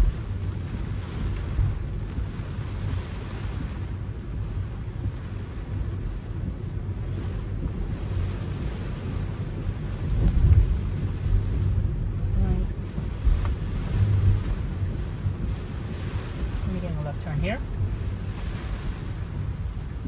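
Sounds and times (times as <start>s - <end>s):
low road rumble: 0.0s - 20.0s.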